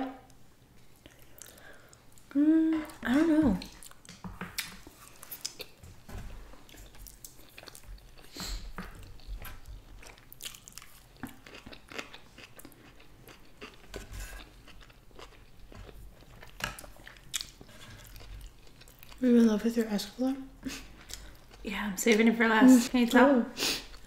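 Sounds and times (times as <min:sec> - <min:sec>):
people chewing: 0:00.9 - 0:24.0.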